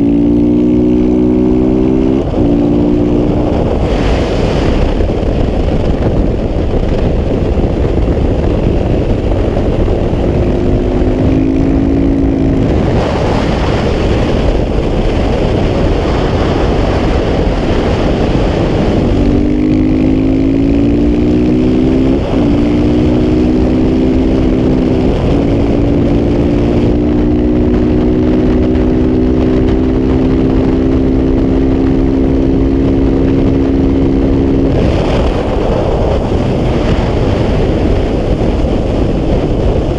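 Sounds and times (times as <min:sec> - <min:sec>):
motorcycle engine running hard: 0:00.0 - 0:39.9
wind rush on microphone: 0:00.0 - 0:39.9.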